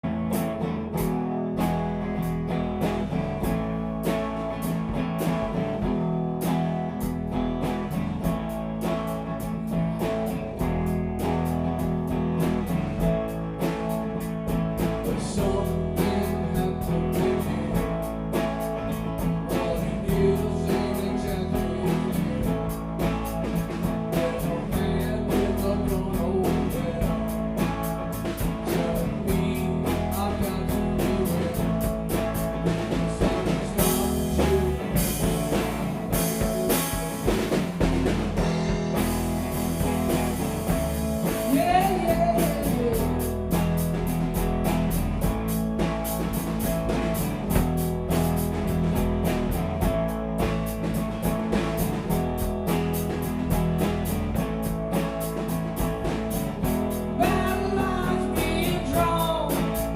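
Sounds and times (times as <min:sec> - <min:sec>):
guitar music with steady beat: 0:00.0 - 0:59.9.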